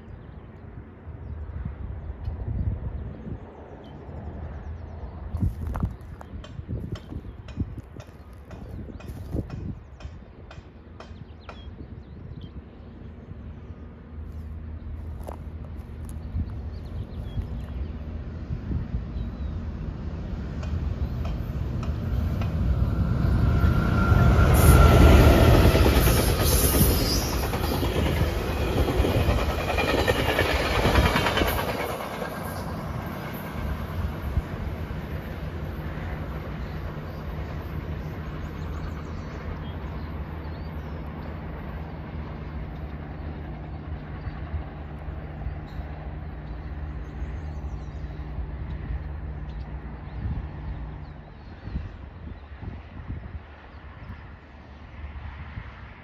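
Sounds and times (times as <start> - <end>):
diesel train passing: 0.0 - 56.0
rail and wheel noise: 0.0 - 56.0.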